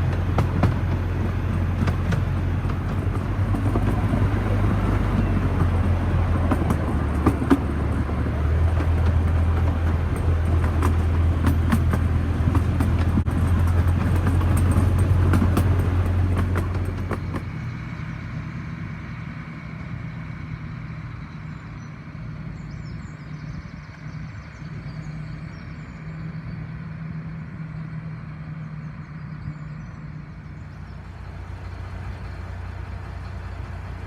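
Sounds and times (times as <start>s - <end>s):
lorry engine idling: 0.0s - 34.0s.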